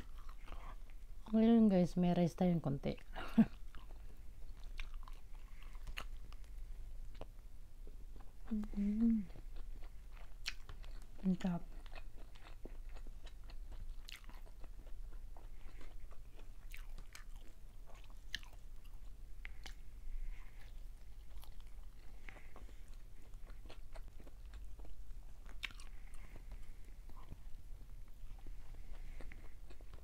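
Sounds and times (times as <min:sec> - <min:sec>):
person chewing food: 0:00.0 - 0:01.4, 0:03.5 - 0:30.0.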